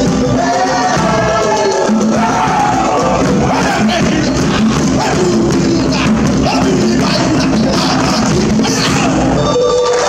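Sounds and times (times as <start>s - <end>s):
fast dense drumming: 0.0s - 9.4s
voices singing: 0.0s - 10.0s.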